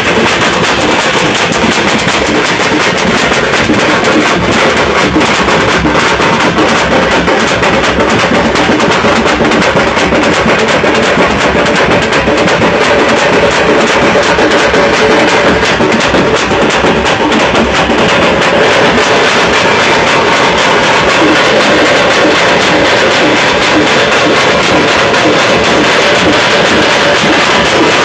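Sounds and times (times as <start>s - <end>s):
large drums beating fast rhythm: 0.0s - 28.0s.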